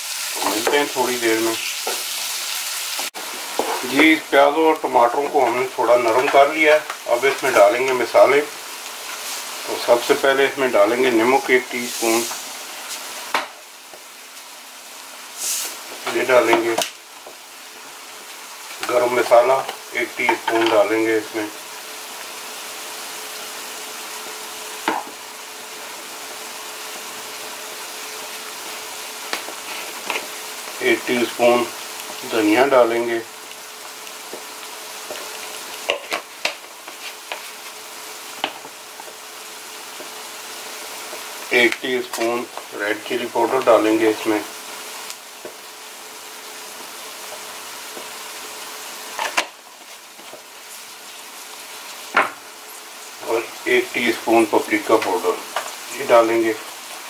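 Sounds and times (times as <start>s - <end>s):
vegetables sizzling in butter: 0.0s - 57.0s.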